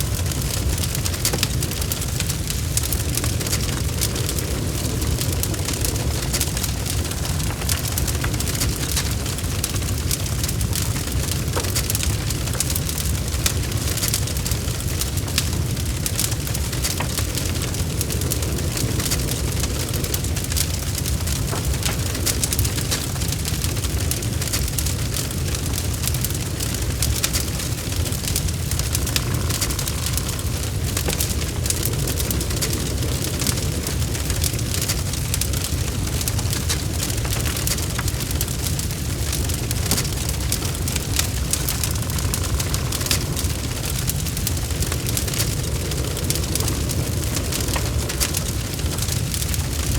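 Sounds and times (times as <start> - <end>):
fire crackling and popping: 0.0 - 49.9
low rumble of flame: 0.0 - 49.9.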